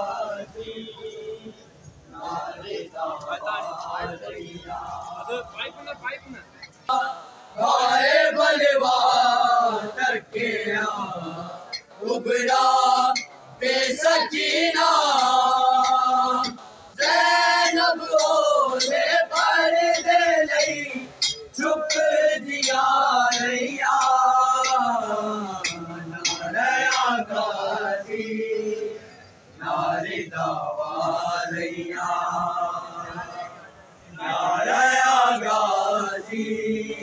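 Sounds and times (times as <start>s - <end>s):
men chanting unaccompanied: 0.0s - 37.0s.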